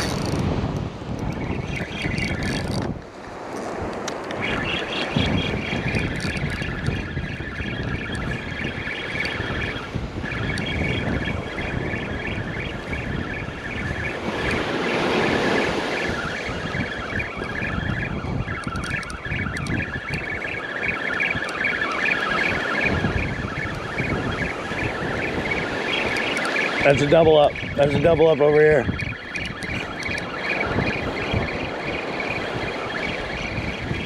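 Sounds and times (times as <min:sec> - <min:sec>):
wind buffeting microphone: 0:00.0 - 0:34.0
birds twittering: 0:01.2 - 0:02.9, 0:04.1 - 0:34.0.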